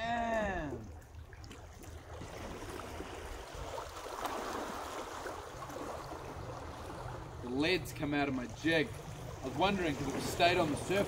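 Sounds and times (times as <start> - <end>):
small waves lapping on rocks: 0.0 - 11.0.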